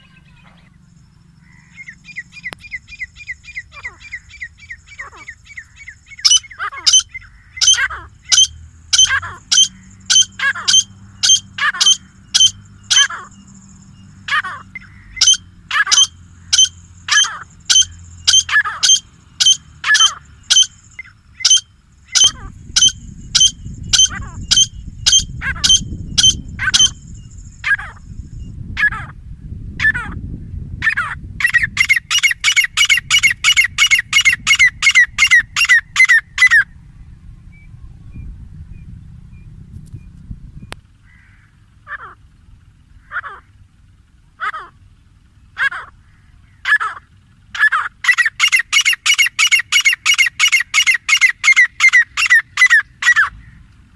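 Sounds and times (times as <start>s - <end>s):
francolins calling: 0.0s - 53.9s.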